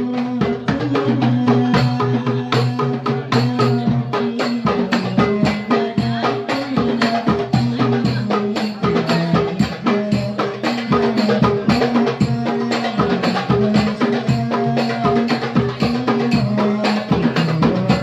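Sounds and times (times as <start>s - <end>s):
goblet drums playing fast rhythm: 0.0s - 18.0s.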